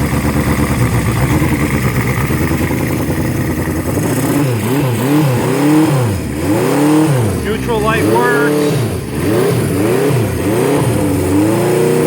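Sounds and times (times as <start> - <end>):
motorcycle engine running on choke: 0.0 - 12.0.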